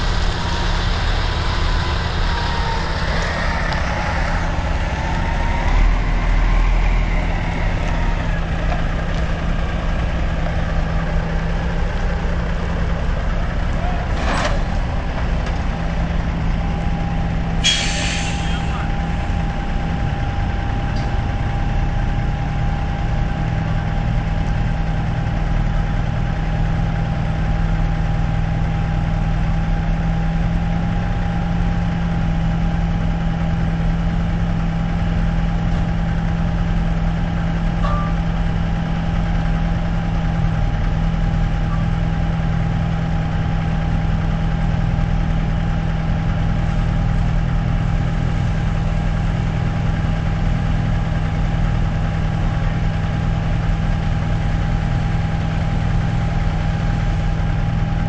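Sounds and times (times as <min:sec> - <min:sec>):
large engine idling: 0:00.0 - 0:58.0.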